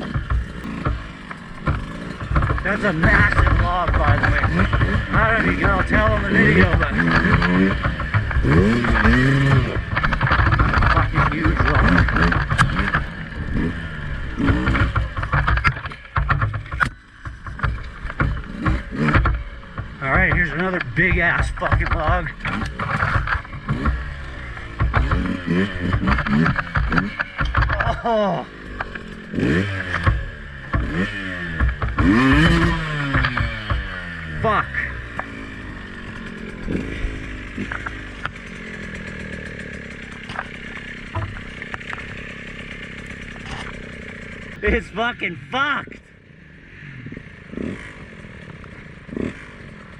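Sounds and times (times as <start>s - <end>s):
knocks and clunks: 0.0s - 35.4s, 39.9s - 42.3s, 42.9s - 45.1s
two-stroke dirt bike engine: 0.0s - 49.9s.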